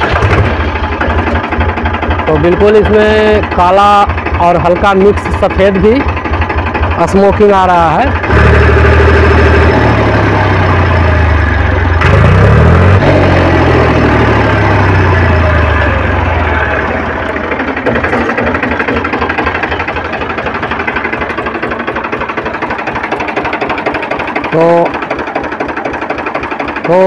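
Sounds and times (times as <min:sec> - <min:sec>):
tractor diesel engine clattering: 0:00.0 - 0:27.0.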